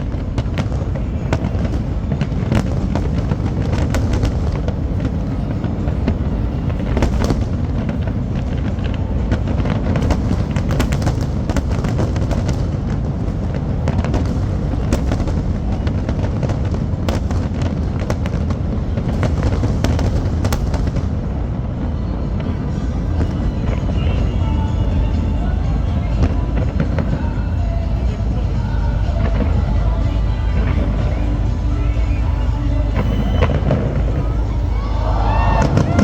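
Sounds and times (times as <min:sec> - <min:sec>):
fireworks cracks and bangs: 0:00.0 - 0:36.0
fireworks rumbling: 0:00.0 - 0:36.0.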